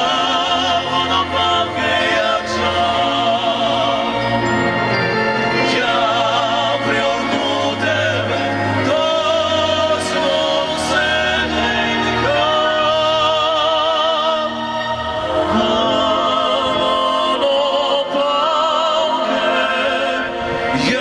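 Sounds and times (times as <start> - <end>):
operatic singing: 0.0 - 21.0.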